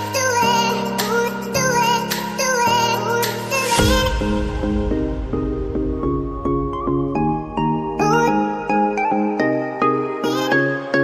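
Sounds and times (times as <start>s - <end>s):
light bouncy music: 0.0s - 11.0s.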